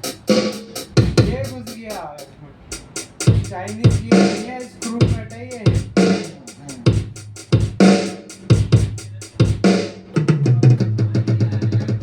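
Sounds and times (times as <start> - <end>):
electronic tom fill: 0.0 - 2.0, 2.7 - 12.0
electronic drum beat: 0.0 - 12.0.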